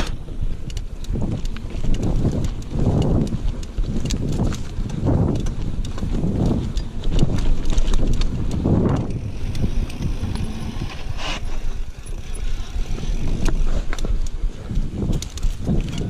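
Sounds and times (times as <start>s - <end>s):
bike rattling clicks: 0.0s - 16.0s
bike tyre noise: 0.0s - 16.0s
wind buffeting microphone: 0.0s - 16.0s.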